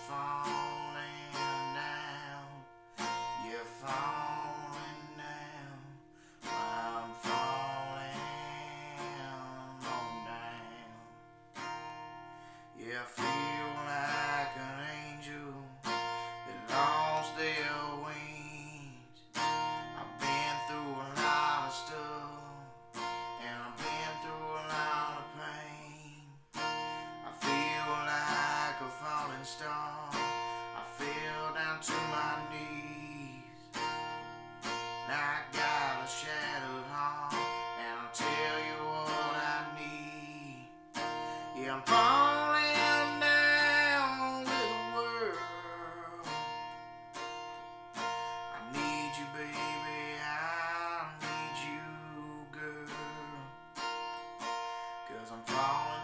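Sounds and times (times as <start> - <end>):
acoustic guitar music: 0.0 - 56.0.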